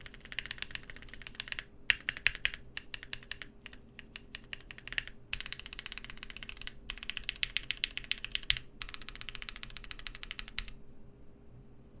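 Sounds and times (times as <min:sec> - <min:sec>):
fast typing on mechanical keyboard: 0:00.0 - 0:10.8
faint fan hum: 0:00.0 - 0:12.0.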